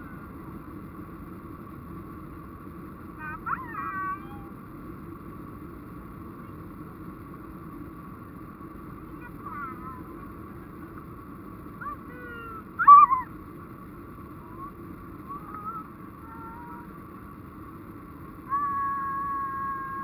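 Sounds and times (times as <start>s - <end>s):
airliner cabin engine and airflow noise: 0.0s - 20.0s.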